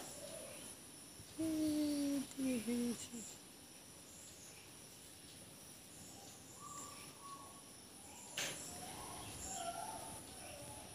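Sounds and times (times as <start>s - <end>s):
faint bird chirps: 0.0s - 10.9s.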